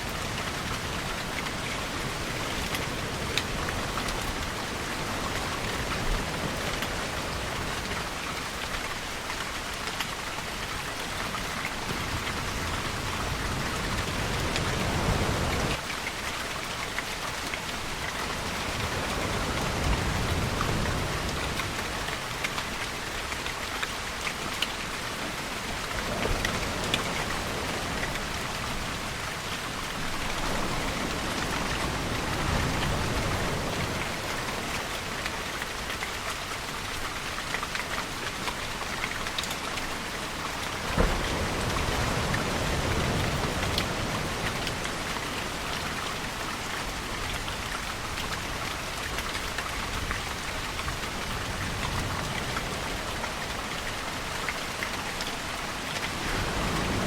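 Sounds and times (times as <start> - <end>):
ocean waves rolling in: 0.0 - 57.0
steady rain falling: 0.0 - 57.0.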